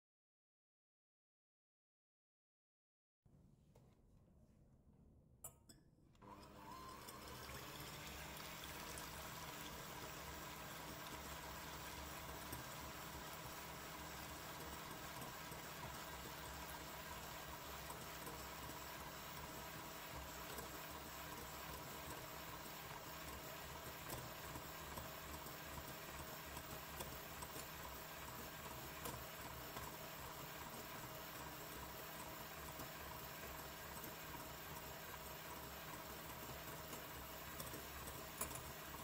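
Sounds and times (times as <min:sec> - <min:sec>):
electric hand mixer running: 0:06.2 - 0:39.0.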